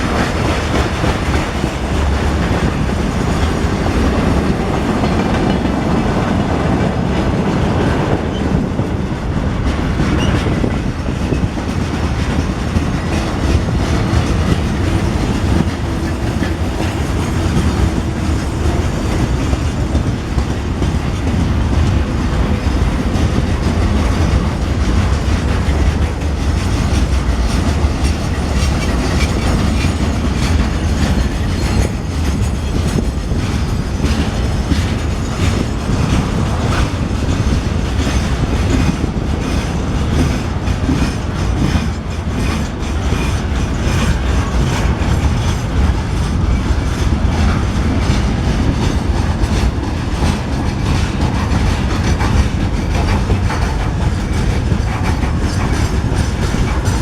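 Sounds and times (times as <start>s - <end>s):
railway wagons rolling past: 0.0s - 57.0s
wheels clicking over rail joints: 8.1s - 57.0s.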